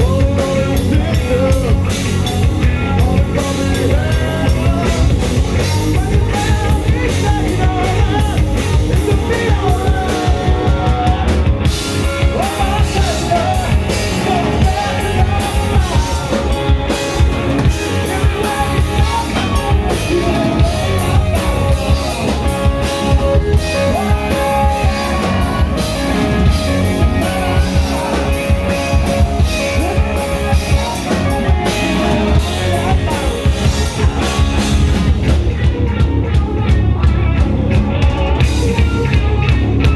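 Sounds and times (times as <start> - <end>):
drum kit: 0.0 - 39.9
guitars: 0.0 - 39.9
person singing: 0.0 - 39.9.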